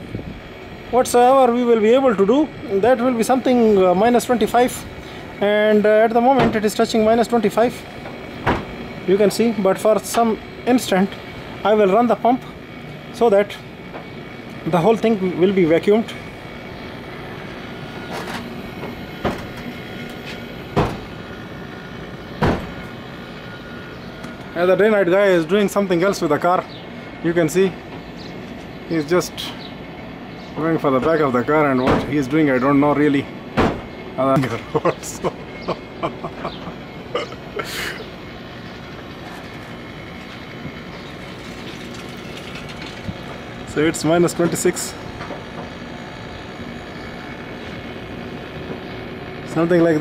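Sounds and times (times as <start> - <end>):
vacuum pump running: 0.0 - 50.0.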